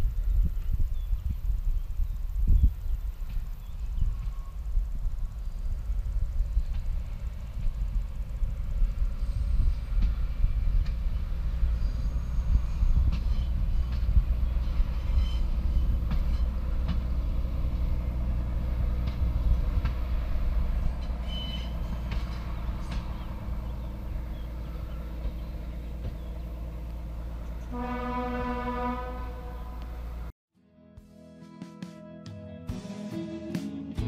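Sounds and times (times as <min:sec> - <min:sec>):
distant railcar running: 0:00.0 - 0:30.3
wind rumbling on microphone: 0:00.0 - 0:30.3.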